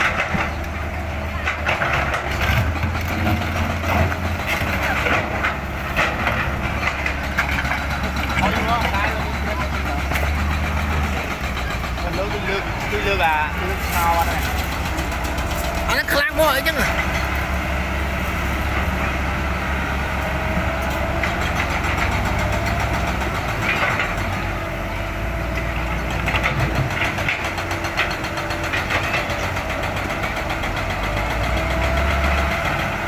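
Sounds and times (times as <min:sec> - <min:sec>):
excavator diesel engine rumbling: 0:00.0 - 0:33.0
soil and rock clanking: 0:00.0 - 0:33.0.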